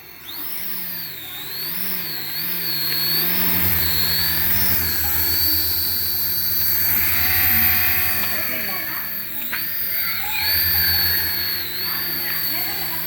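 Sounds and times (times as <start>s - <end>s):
low buzz: 0.0s - 13.0s
small electric motor whining: 0.0s - 13.0s.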